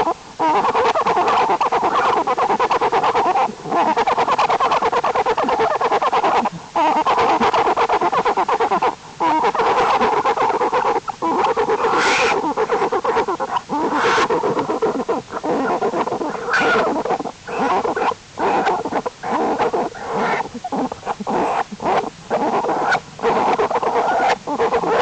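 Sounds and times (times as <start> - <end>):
bear cubs humming: 0.0 - 25.0.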